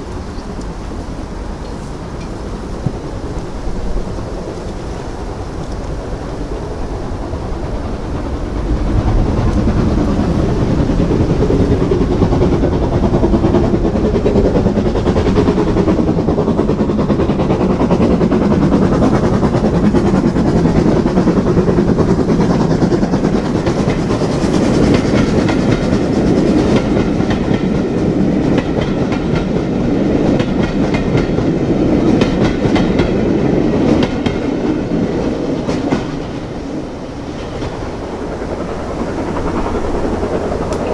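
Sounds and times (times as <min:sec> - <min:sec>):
wheels clattering over rail joints: 0:00.0 - 0:19.6, 0:21.9 - 0:40.9
steam train rumbling past: 0:00.0 - 0:40.9.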